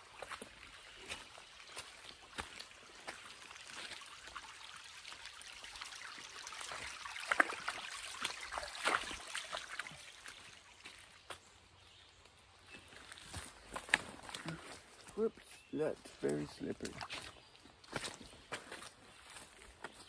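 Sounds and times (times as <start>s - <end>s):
footsteps on wet ground: 0.0s - 4.4s, 6.5s - 20.0s
creek water trickling: 0.0s - 20.0s.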